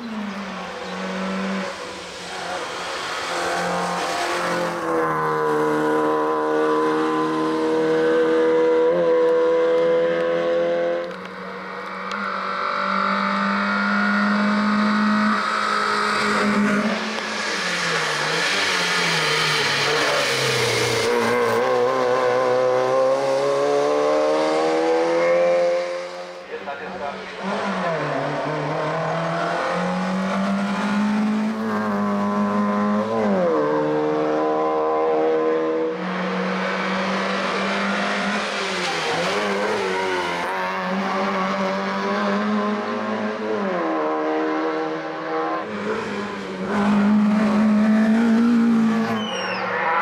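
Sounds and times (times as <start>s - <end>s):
car engine revving hard: 0.7s - 11.2s, 12.0s - 49.2s.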